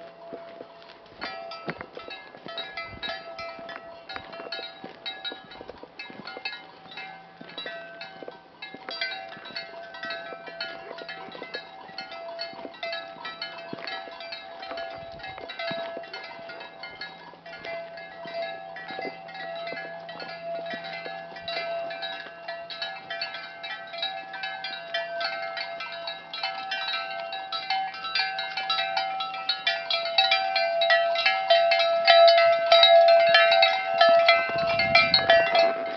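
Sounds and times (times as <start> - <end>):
cowbells clanking: 0.0 - 35.9.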